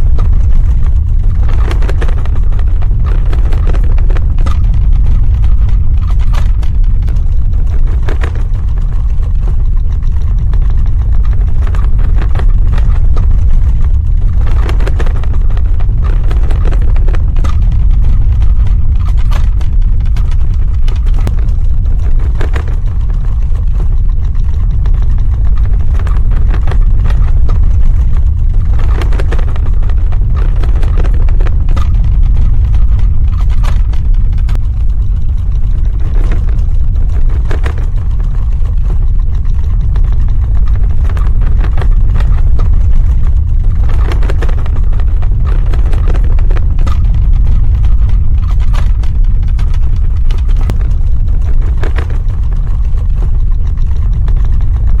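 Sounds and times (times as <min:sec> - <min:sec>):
crackling and rattling: 0:00.0 - 0:55.0
deep earthquake rumble: 0:00.0 - 0:55.0.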